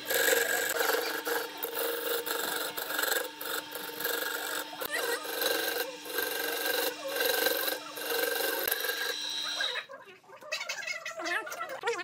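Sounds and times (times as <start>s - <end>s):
sandpaper rasping on spinning wood: 0.0s - 9.7s
lathe motor humming: 0.0s - 9.8s.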